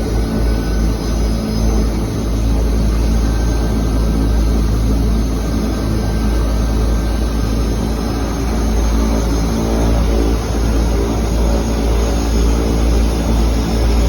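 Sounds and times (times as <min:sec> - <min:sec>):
propeller plane engines droning: 0:00.0 - 0:14.0.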